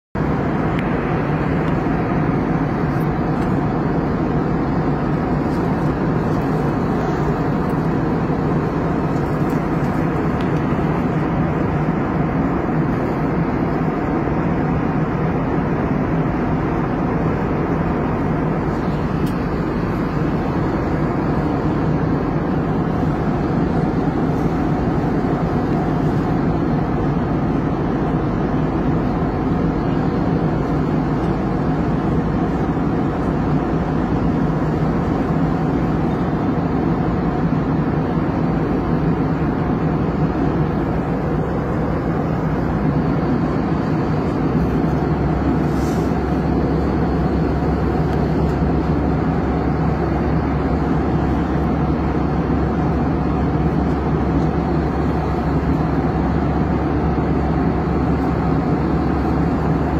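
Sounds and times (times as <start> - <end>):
vehicle cabin drone: 0.2 - 59.9.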